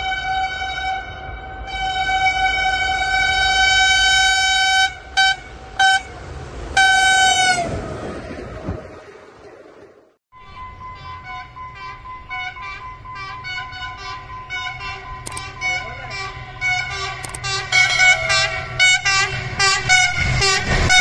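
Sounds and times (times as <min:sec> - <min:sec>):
diesel locomotive horn: 0:00.0 - 0:08.2, 0:10.4 - 0:21.0
train rushing past: 0:00.9 - 0:21.0.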